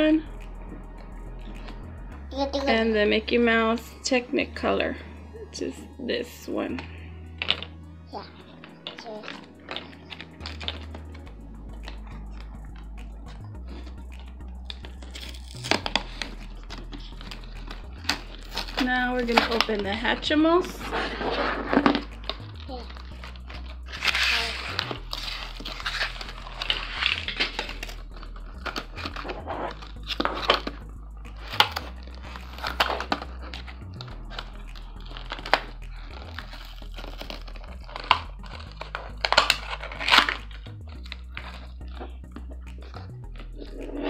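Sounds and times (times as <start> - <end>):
quiet background music: 0.0 - 44.0.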